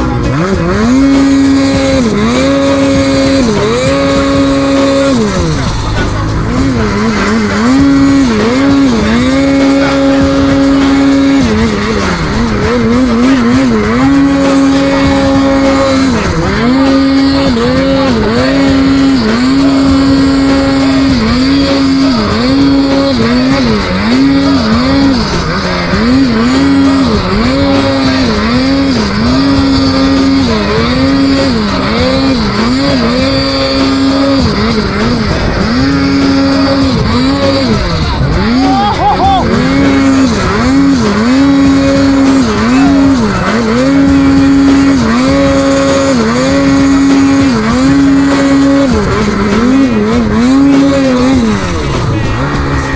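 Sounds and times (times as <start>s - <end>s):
snowmobile engine revving: 0.0s - 52.9s.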